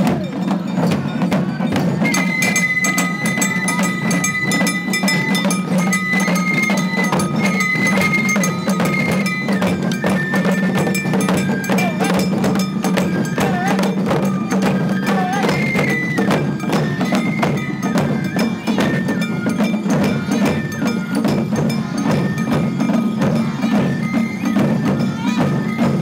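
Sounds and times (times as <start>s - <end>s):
hand drums clacking beat: 0.0s - 26.0s
bamboo flutes playing: 1.5s - 26.0s.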